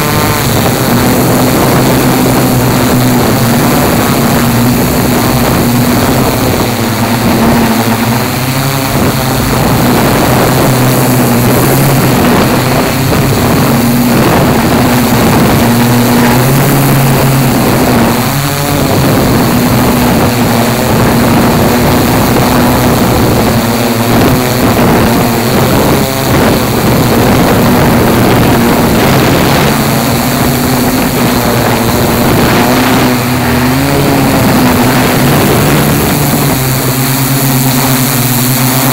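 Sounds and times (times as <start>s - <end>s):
drone motors humming: 0.0s - 38.9s
wind rushing over microphone: 0.0s - 38.9s.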